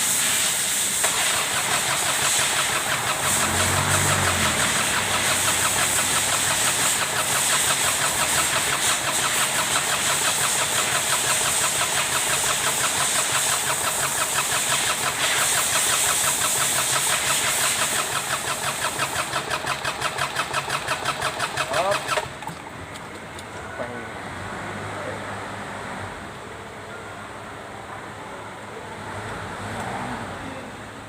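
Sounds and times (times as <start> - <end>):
diesel tractor engine running: 0.0 - 25.1.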